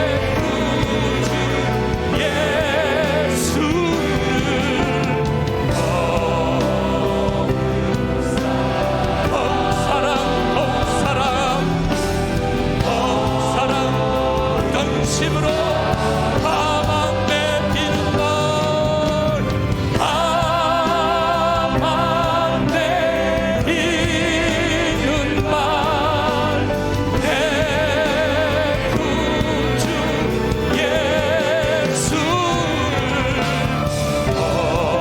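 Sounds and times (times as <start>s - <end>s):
bass guitar: 0.0s - 35.0s
drums: 0.0s - 35.0s
keyboards: 0.0s - 35.0s
voices singing with vibrato: 0.0s - 35.0s.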